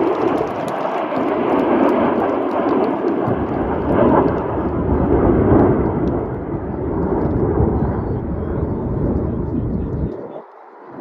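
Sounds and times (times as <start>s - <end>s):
jets flying past: 0.0s - 11.0s.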